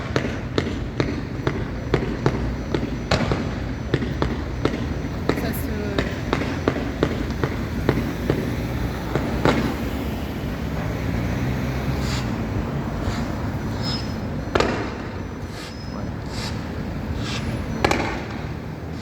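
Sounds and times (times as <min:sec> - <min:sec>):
fireworks pops and crackles: 0:00.0 - 0:12.4, 0:13.0 - 0:19.0
fireworks bangs echoing: 0:00.0 - 0:19.0.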